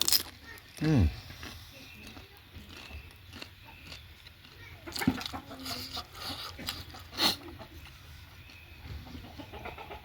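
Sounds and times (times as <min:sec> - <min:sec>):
person chewing and crunching food: 0:00.0 - 0:09.8.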